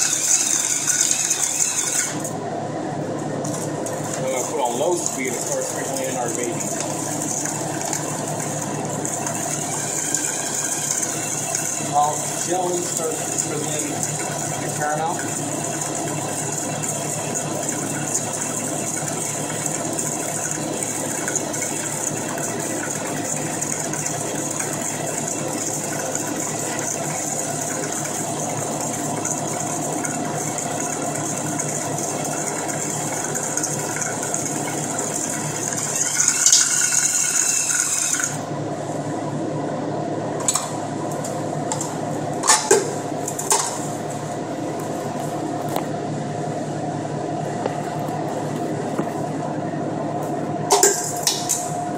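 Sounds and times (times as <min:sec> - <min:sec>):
stand mixer motor running: 0:00.0 - 0:49.6.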